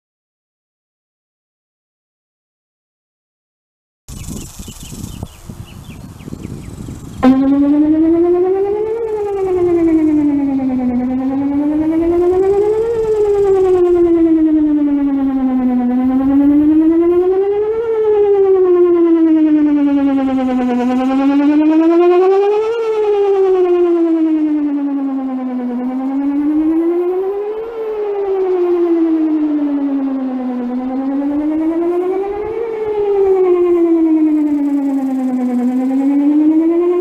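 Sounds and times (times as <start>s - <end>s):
warning siren wailing: 4.2s - 37.0s.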